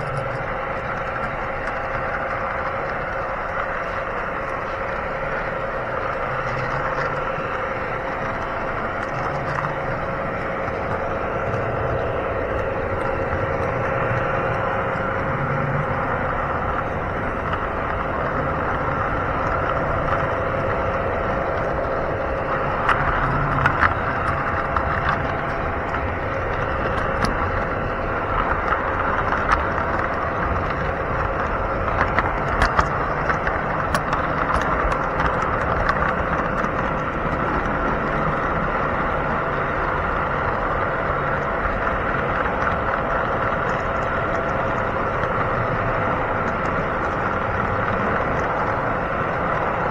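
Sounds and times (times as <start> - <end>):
model train rumble and whine: 0.0 - 49.9
track clicks: 0.0 - 49.9.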